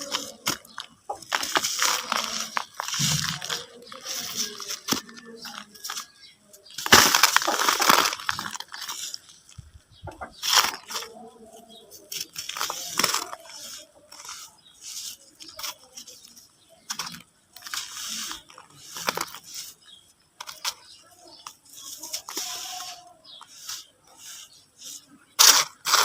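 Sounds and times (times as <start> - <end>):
mud crumbling crackles: 0.0 - 26.0.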